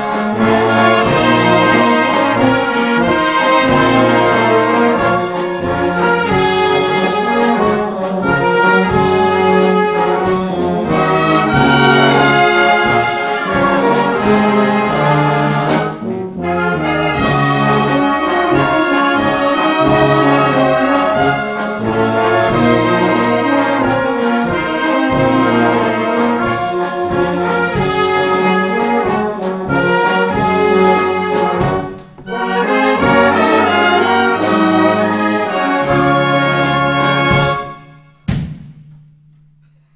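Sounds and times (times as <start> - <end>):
brass band playing: 0.0 - 38.3
tuba bass line: 0.0 - 39.9.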